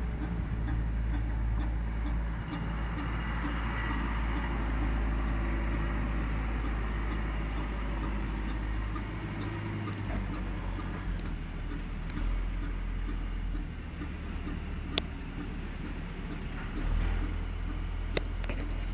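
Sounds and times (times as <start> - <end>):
boat engine running: 0.0 - 18.9
excavator engine running: 0.0 - 18.9.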